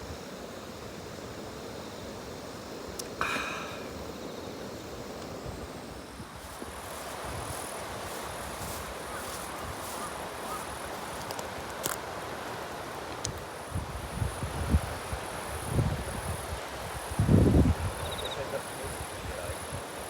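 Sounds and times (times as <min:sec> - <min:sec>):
insects chirping: 0:00.0 - 0:20.0
wind: 0:00.0 - 0:20.0.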